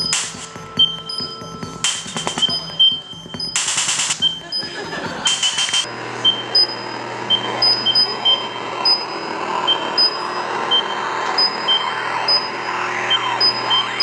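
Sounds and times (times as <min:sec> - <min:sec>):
short high electronic beeps: 0:00.0 - 0:04.7, 0:05.3 - 0:14.0
harsh electronic buzzing: 0:00.0 - 0:14.0
steady low hum: 0:00.0 - 0:14.0.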